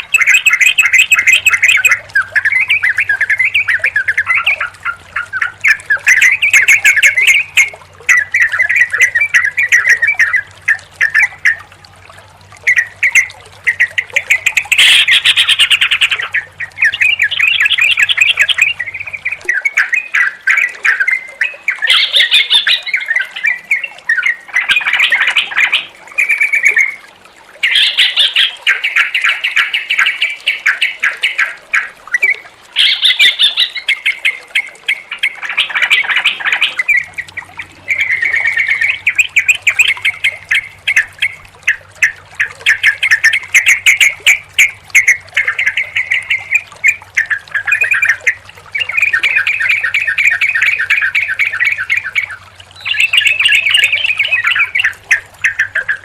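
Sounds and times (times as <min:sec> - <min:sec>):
bulbuls chattering and singing: 0:00.0 - 0:56.0.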